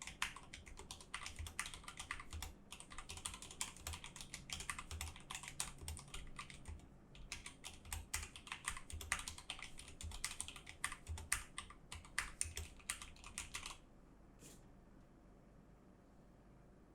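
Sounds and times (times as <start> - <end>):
mechanical keyboard typing: 0.0 - 13.8.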